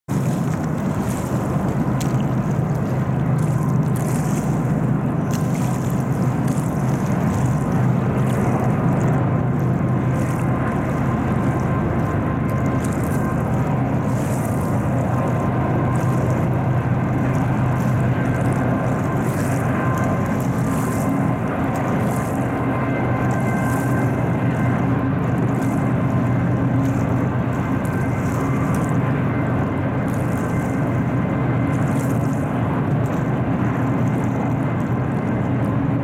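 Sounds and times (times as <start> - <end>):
diesel locomotive drone: 0.1 - 36.0.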